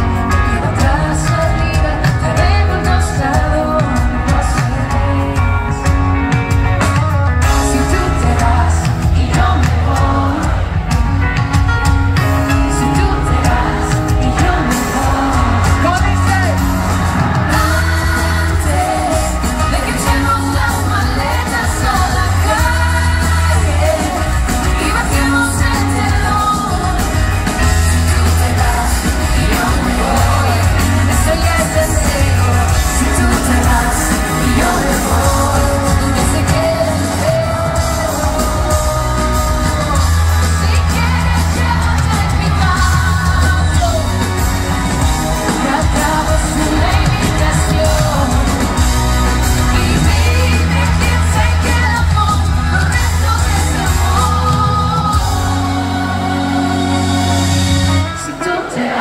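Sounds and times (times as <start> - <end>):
live pop band playing: 0.0 - 59.0
person singing lead vocal: 0.0 - 59.0.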